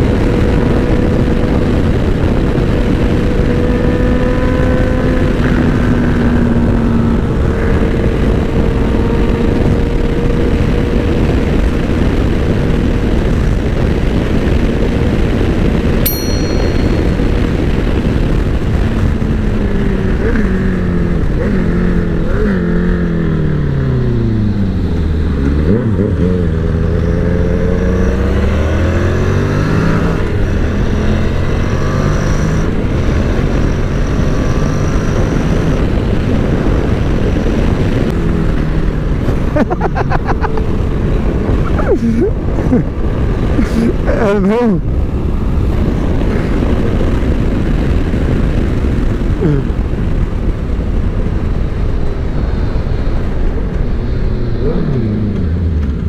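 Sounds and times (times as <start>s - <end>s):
motorcycle engine droning: 0.0s - 56.0s
wind rushing over microphone: 0.0s - 56.0s.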